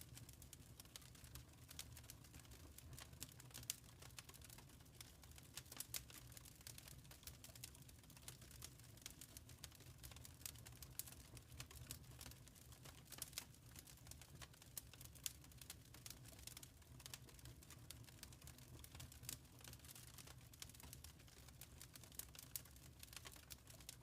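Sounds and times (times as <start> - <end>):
quiet wood fire crackling: 0.0 - 24.0.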